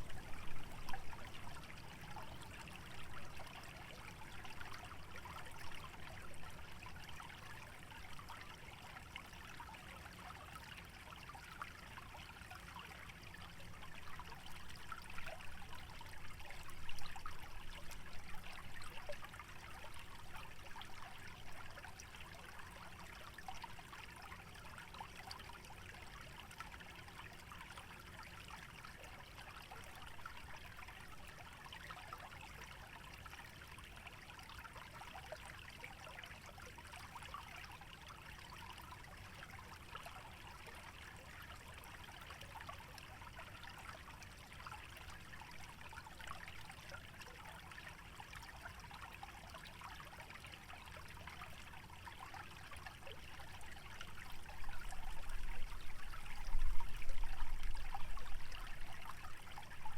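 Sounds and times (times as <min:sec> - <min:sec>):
shallow stream trickling: 0:00.0 - 0:59.9.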